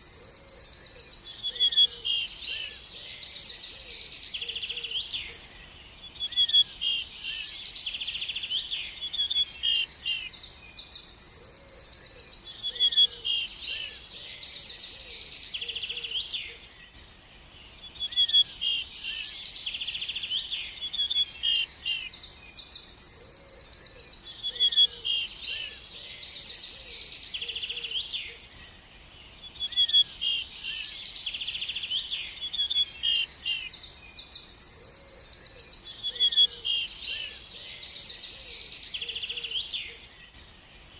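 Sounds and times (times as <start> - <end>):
songbird trilling and chirping: 0.0 - 40.9.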